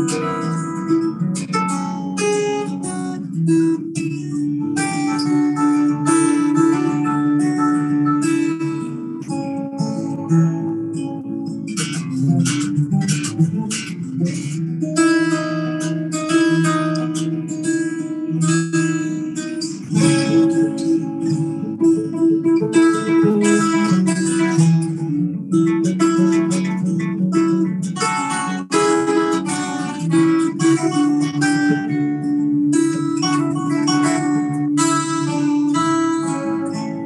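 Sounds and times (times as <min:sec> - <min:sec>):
guitar picked and strummed notes: 0:00.0 - 0:37.0.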